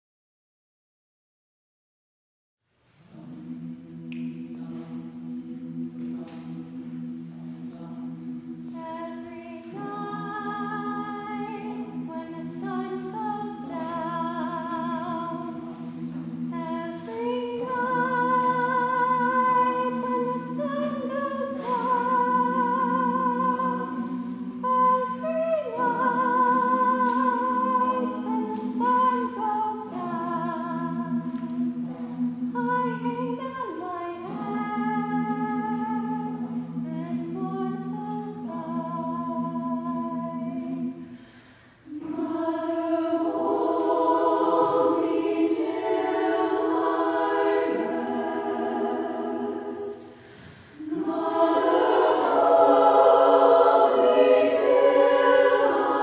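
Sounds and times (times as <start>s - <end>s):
women's choir singing a cappella: 3.0s - 56.0s.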